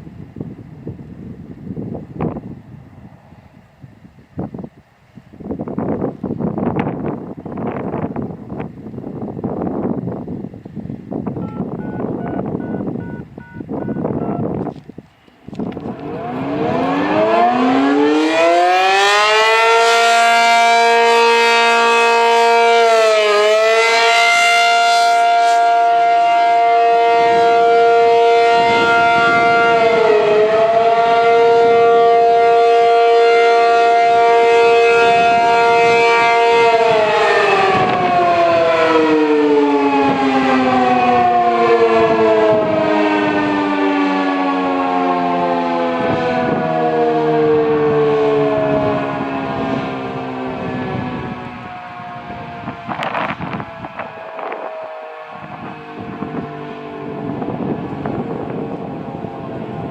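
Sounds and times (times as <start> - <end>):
warning siren wailing: 11.2 - 14.8, 15.5 - 59.9.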